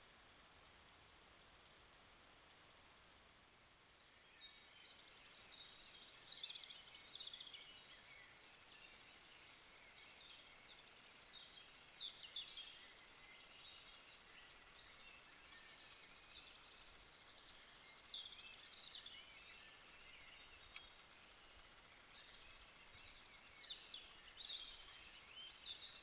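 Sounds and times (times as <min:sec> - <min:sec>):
faint distant birdsong: 0:00.0 - 0:26.0
microphone hiss: 0:00.0 - 0:26.0.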